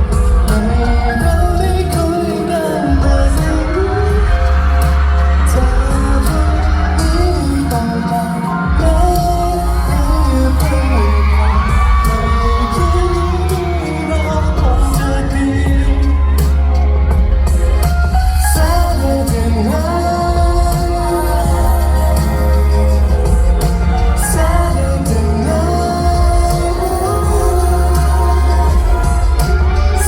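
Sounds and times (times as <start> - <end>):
person singing: 0.0 - 30.0
pop backing track heavy bass: 0.0 - 30.0.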